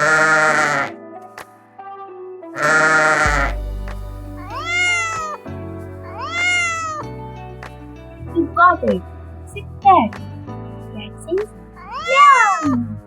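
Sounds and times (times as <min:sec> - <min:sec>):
light background music: 0:00.0 - 0:13.0.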